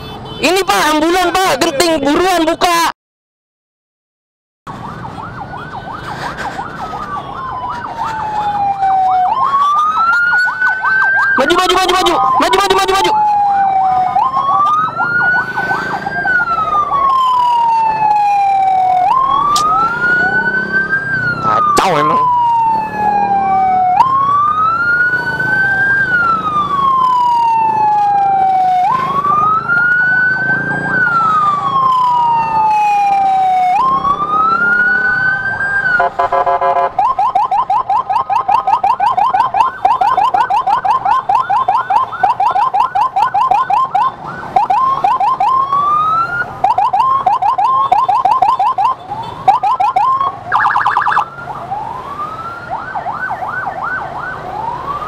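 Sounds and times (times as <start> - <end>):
ambulance siren wailing: 0.4 - 2.9, 4.7 - 55.0
siren buzzing blast: 4.8 - 55.0
siren yelping: 4.8 - 55.0.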